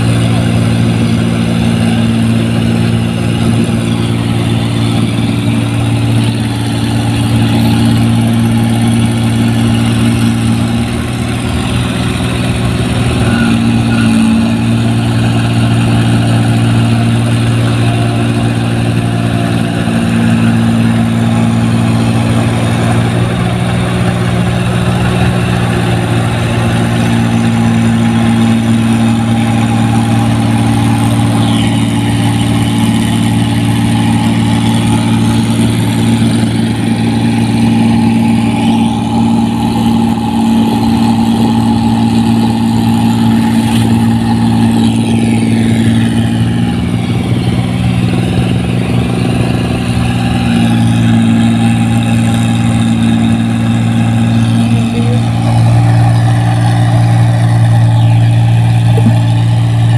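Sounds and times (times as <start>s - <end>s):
combine harvester engine running: 0.0s - 59.9s
machine workings noise: 0.0s - 59.9s.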